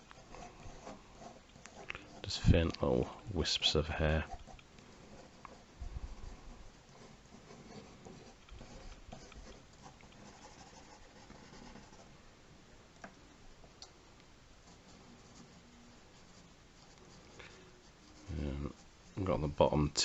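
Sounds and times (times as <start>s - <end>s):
pencil scratching on paper: 0.0s - 12.1s, 14.6s - 19.5s.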